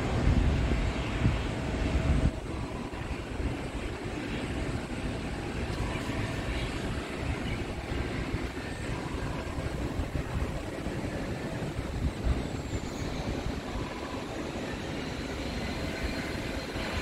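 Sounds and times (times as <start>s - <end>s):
aircraft engine rush and rumble: 0.0s - 17.0s
faint steady whine: 0.0s - 17.0s.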